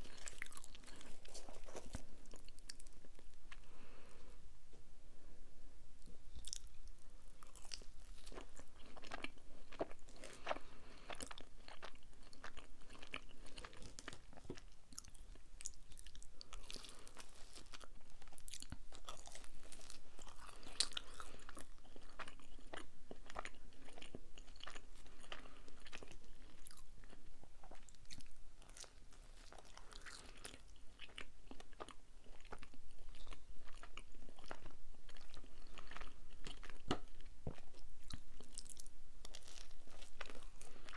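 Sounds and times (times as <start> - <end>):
chewing pizza: 0.0 - 4.0, 6.3 - 40.9.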